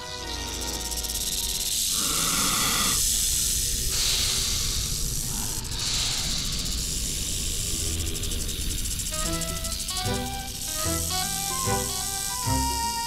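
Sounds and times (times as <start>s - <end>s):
cartoon snakes hissing: 0.1s - 13.0s.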